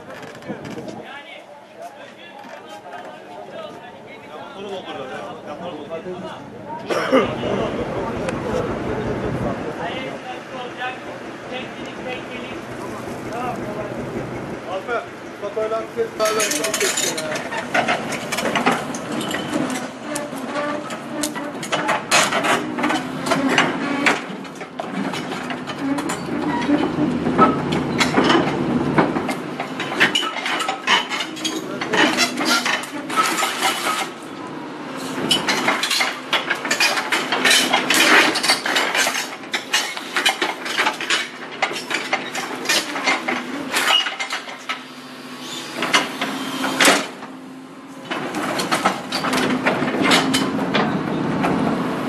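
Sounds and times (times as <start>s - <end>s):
excavator engine humming: 3.3s - 30.4s, 31.2s - 52.0s.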